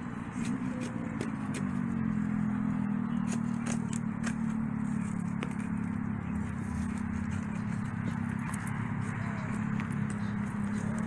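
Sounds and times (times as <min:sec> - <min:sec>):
clicks and scrapes of soil and wire: 0:00.0 - 0:11.0
low engine hum: 0:00.0 - 0:11.0.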